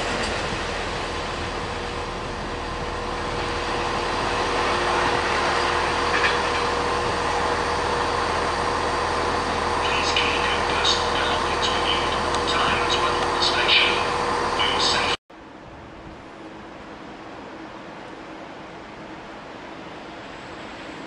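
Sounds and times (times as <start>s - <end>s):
faint hum: 0.0s - 21.0s
freight train rumbling: 0.0s - 21.0s.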